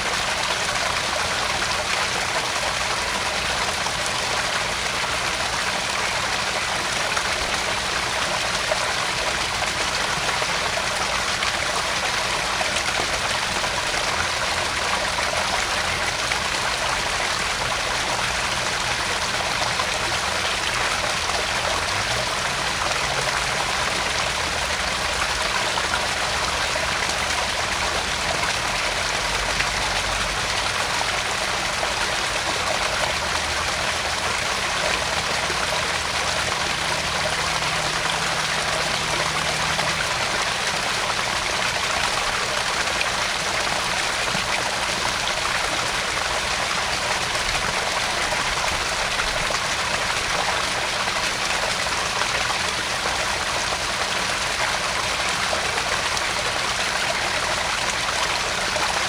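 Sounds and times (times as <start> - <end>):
water splashing into pond: 0.0 - 59.0.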